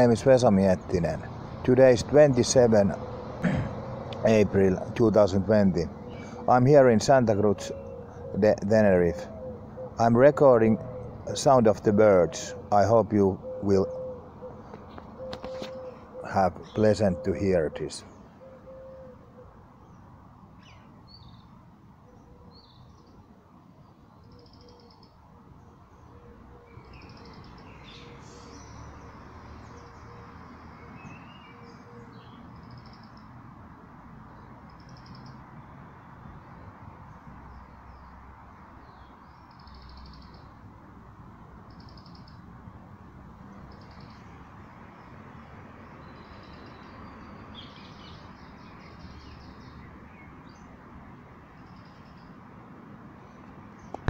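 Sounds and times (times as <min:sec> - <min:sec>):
small birds chirping: 0:00.0 - 0:33.5, 0:34.2 - 0:40.7, 0:41.6 - 0:42.5, 0:43.3 - 0:50.8, 0:51.4 - 0:54.0
songbird trill: 0:00.0 - 0:33.5, 0:34.2 - 0:40.7, 0:41.6 - 0:42.5, 0:43.4 - 0:50.8, 0:51.4 - 0:52.5.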